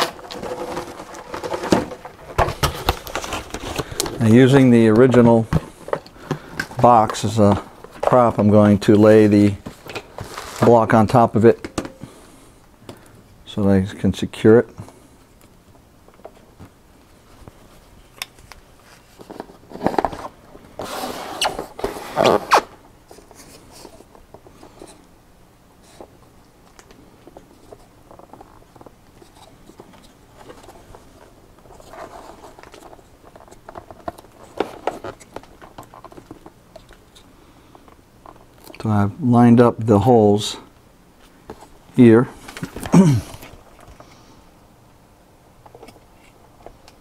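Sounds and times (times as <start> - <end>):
rustling and scraping: 0.0 - 12.3, 16.2 - 25.1, 25.8 - 38.9, 41.2 - 44.5.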